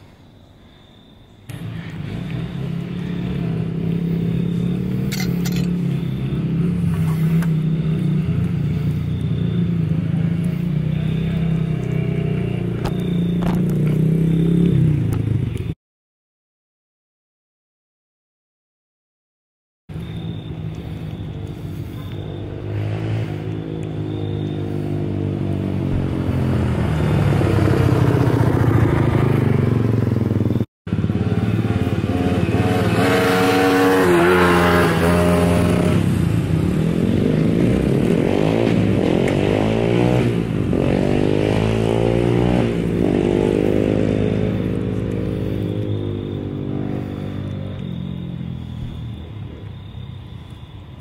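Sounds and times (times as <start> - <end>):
engine running: 1.5 - 15.7, 19.9 - 50.6.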